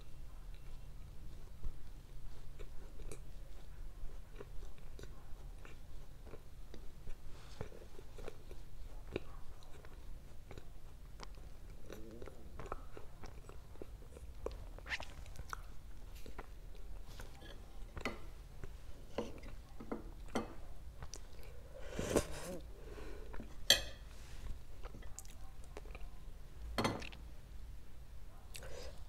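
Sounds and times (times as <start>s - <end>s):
soft chewing and wet mouth sounds: 0.0s - 29.0s.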